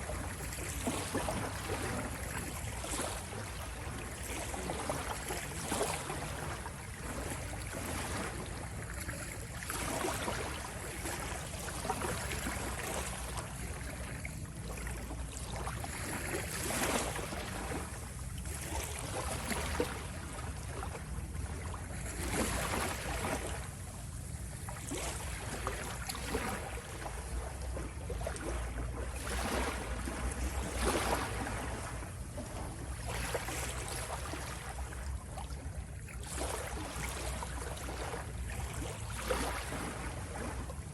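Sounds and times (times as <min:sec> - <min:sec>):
waves washing in: 0:00.0 - 0:40.9.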